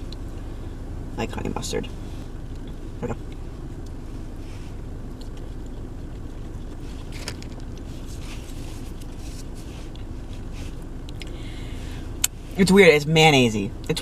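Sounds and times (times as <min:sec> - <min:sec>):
car cabin hum with heater: 0:00.0 - 0:14.0.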